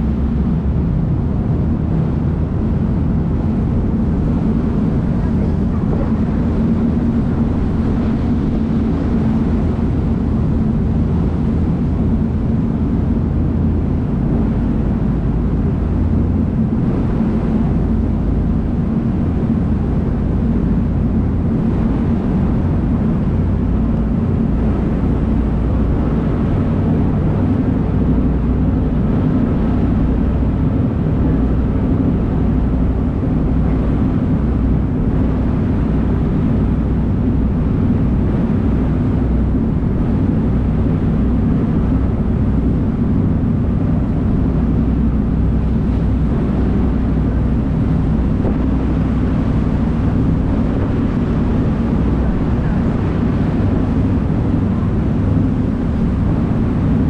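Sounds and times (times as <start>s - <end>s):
boat engine droning: 0.0s - 57.0s
water rushing in wake: 0.0s - 57.0s.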